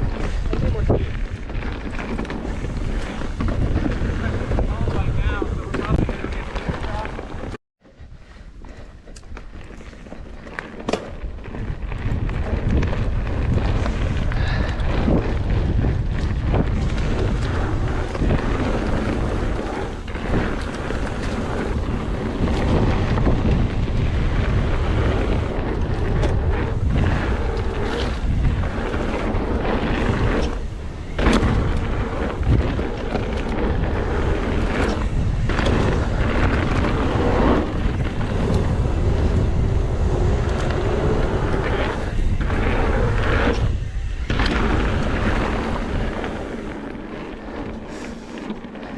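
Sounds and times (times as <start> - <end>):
bike clattering over bumps: 0.0 - 7.6, 9.0 - 48.9
tyres rumbling on dirt trail: 0.0 - 48.9
wind buffeting microphone: 0.0 - 48.9.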